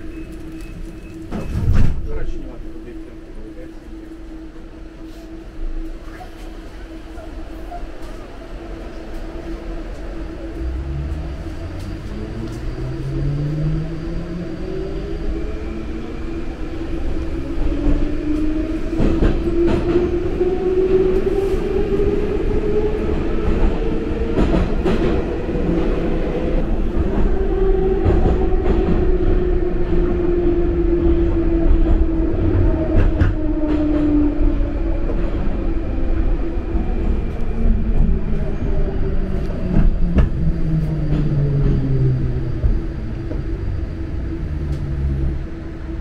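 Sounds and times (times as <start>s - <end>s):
train rumble in tunnel: 0.0s - 46.0s.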